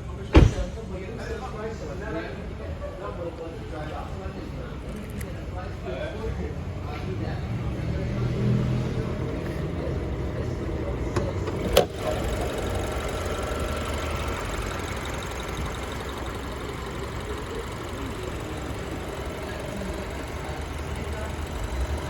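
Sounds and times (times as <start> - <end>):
car engine idling: 3.4 - 22.0.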